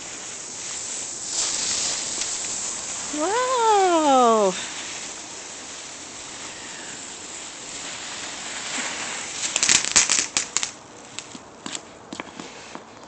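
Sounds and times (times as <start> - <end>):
fireworks hissing: 0.0 - 12.9
fireworks crackling pops: 0.0 - 13.0.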